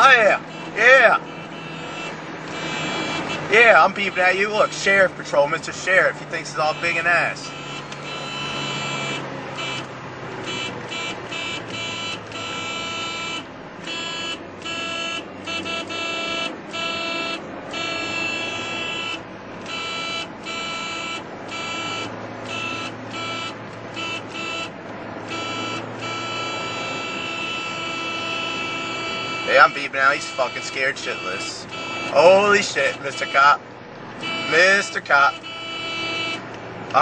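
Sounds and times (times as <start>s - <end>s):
car horn honking: 0.0s - 37.0s
engine and road noise: 0.0s - 37.0s.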